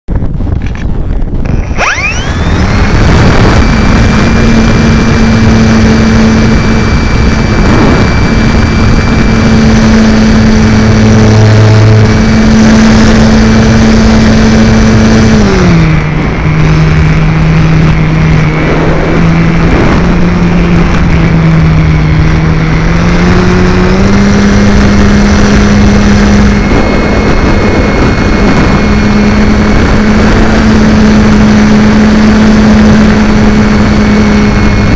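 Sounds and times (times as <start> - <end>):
air noise rushing: 0.1 - 34.9
electric motor and propeller whine: 0.1 - 34.9.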